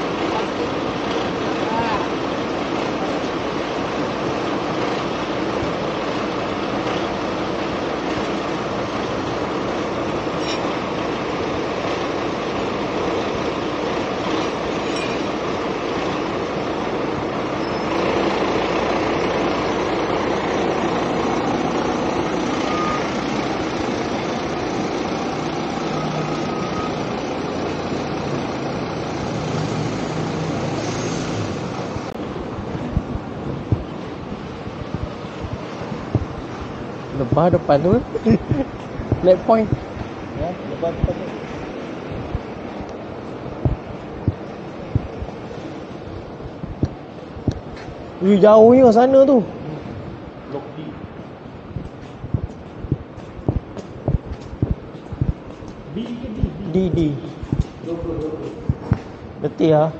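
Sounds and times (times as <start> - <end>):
diesel engine running: 0.0 - 59.4.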